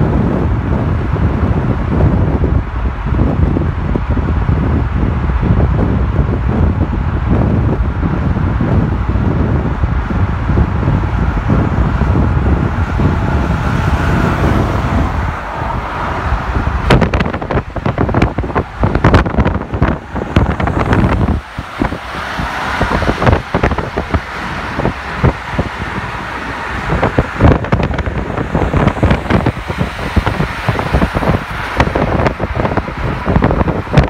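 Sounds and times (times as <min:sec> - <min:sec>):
car road and wind noise: 0:00.0 - 0:34.0.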